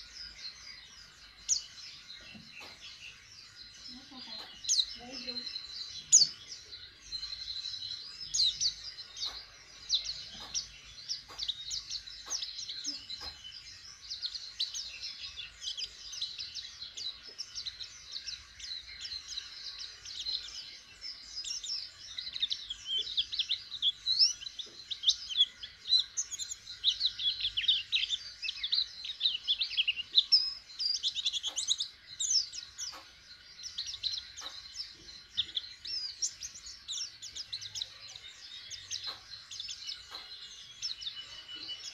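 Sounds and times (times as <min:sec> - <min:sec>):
bird twittering song: 0:00.0 - 0:41.9.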